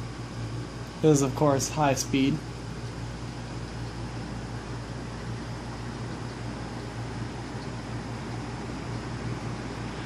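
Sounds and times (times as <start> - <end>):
ceiling fan air rushing: 0.0 - 10.0
low motor hum: 0.0 - 10.0.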